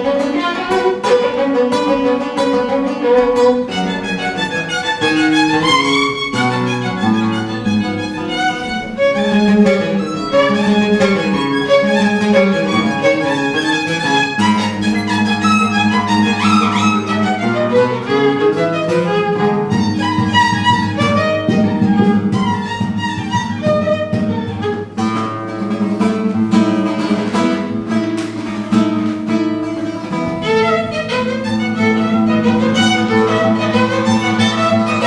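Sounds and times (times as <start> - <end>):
plucked guitar accompaniment: 0.0 - 35.0
violin melody: 0.0 - 35.0.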